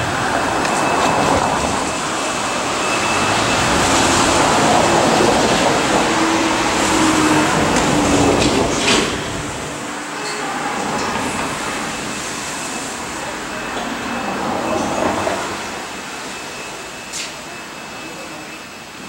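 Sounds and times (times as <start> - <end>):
electric train rumble and hiss: 0.0 - 19.0.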